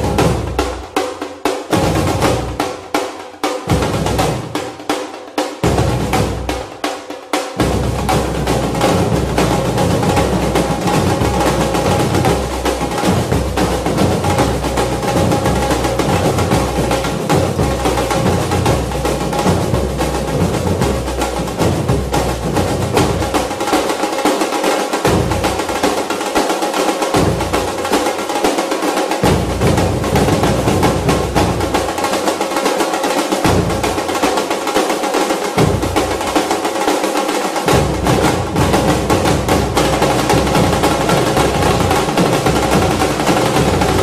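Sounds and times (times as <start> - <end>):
fast drum-driven background music: 0.0 - 44.0.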